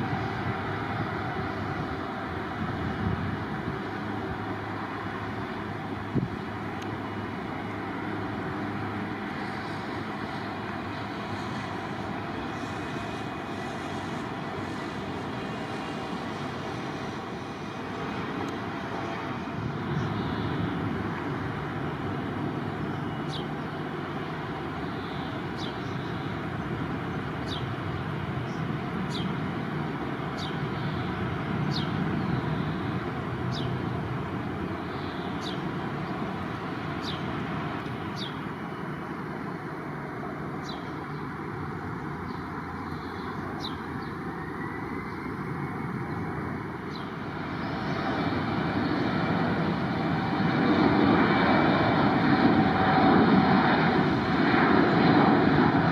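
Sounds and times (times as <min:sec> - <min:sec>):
jet engine rushing: 0:00.0 - 0:55.9.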